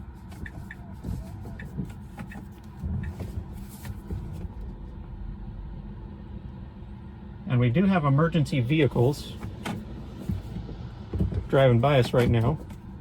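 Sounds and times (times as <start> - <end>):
vehicle rumble inside car: 0.0 - 13.0.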